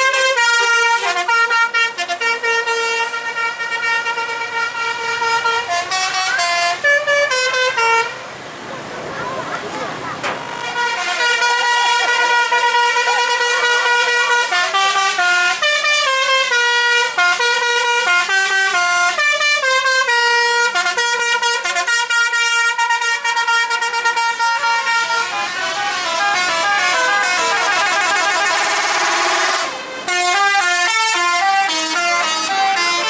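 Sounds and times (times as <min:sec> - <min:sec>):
multi-trumpet bus horn tune: 0:00.0 - 0:08.4, 0:09.0 - 0:33.0.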